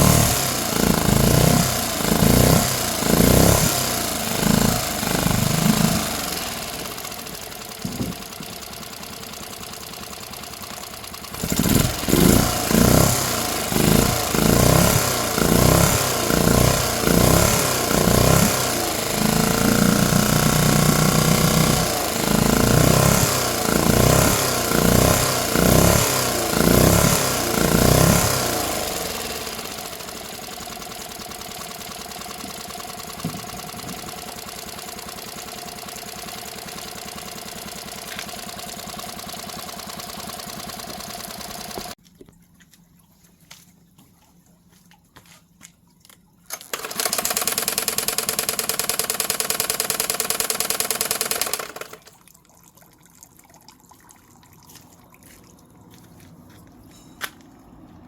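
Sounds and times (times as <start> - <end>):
outboard motor revving and idling: 0.0 - 42.0, 46.5 - 52.2.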